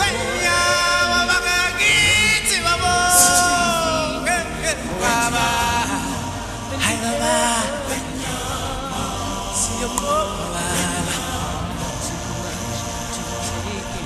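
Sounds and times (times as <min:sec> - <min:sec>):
voices singing long notes: 0:00.0 - 0:14.0.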